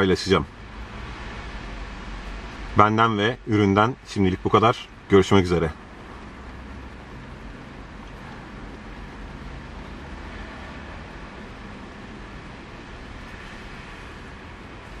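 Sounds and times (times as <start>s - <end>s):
rain on car roof: 0.0s - 15.0s.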